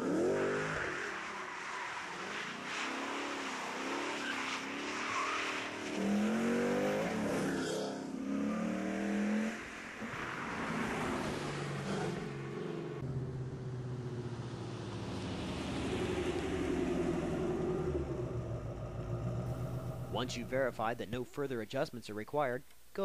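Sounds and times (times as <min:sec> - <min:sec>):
car engine accelerating hard: 0:00.0 - 0:20.6.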